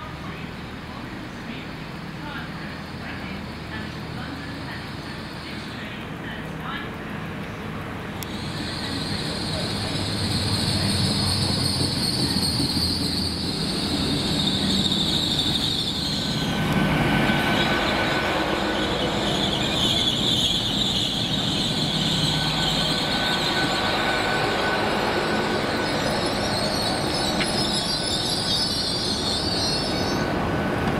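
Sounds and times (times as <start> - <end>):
train wheels squealing on rails: 0.0 - 6.0, 8.2 - 30.9
train rumble: 0.0 - 30.9.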